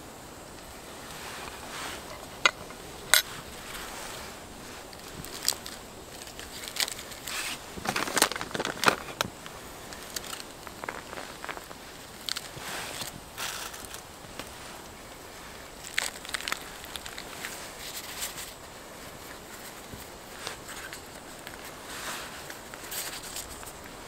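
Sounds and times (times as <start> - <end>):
crunchy crackles: 0.0 - 24.0
lettuce leaves crinkling: 0.6 - 24.0.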